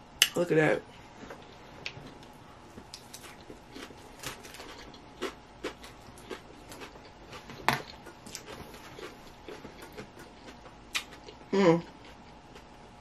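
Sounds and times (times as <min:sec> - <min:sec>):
chewing lettuce crunches: 0:02.0 - 0:12.9.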